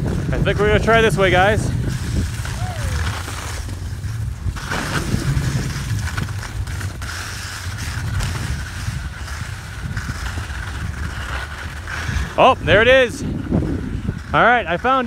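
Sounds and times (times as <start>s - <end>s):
skis scraping over snow: 0.0s - 15.0s
wind rumble on microphone: 0.0s - 15.0s.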